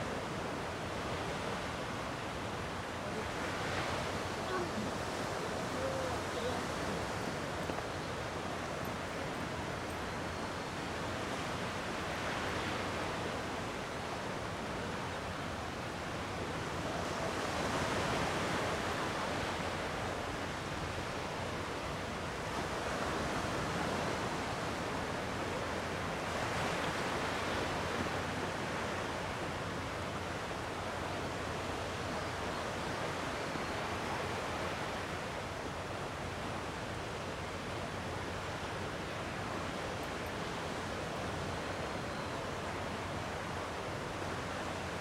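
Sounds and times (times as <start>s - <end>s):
sea waves washing on shore: 0.0s - 45.0s.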